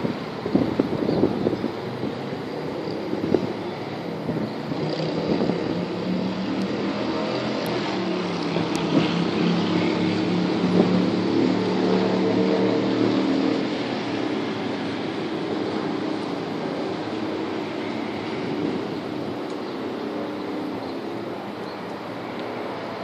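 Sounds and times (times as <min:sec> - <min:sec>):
wind noise on microphone: 0:00.0 - 0:23.0.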